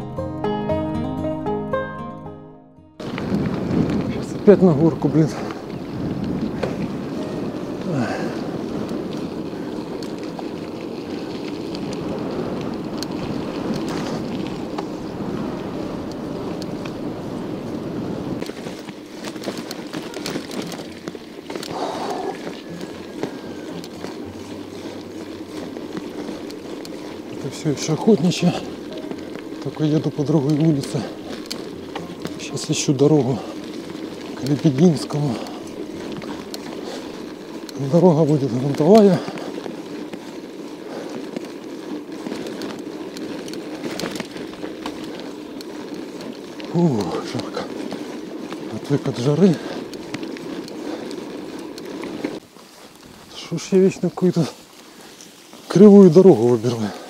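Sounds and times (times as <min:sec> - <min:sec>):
bicycle clicks and rattles: 0:03.0 - 0:57.0
bicycle road noise: 0:03.0 - 0:57.0
bike tyres and drivetrain rolling: 0:03.0 - 0:57.0.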